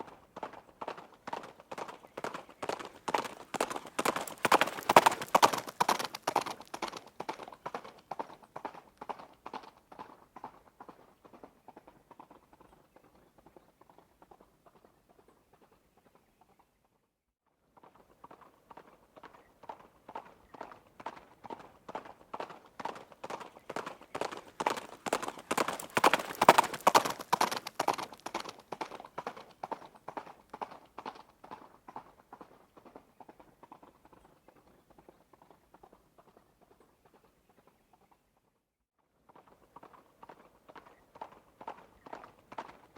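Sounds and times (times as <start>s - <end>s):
hoofbeats of running horse: 0.0s - 16.8s, 17.8s - 38.3s, 39.3s - 42.9s.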